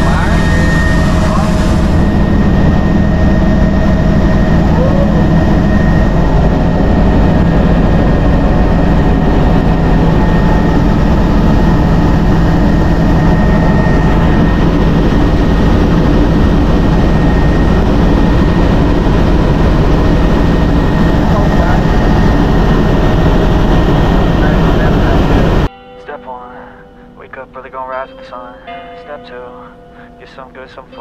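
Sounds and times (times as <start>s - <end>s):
helicopter engine and rotor: 0.0s - 25.7s
high whine: 0.0s - 31.0s.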